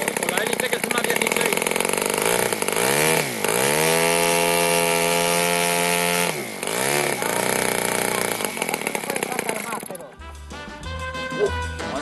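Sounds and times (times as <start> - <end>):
model aircraft engine buzzing: 0.0 - 10.2.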